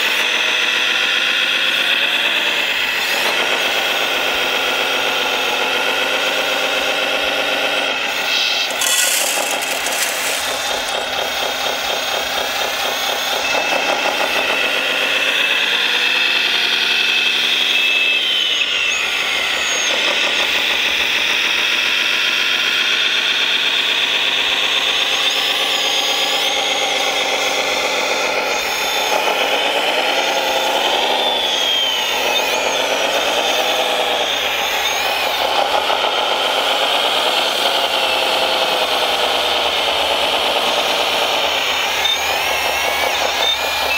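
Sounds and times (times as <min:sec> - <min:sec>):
toy loader motor and hydraulic whine: 0:06.0 - 0:43.9.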